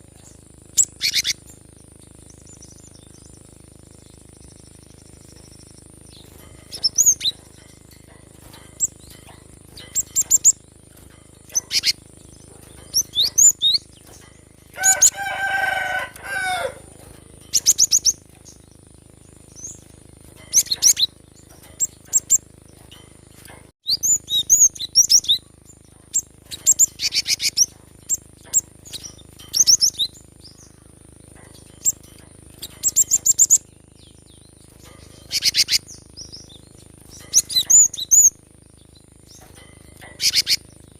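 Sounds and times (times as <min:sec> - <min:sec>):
bird chirping and trilling: 0:00.1 - 0:40.9.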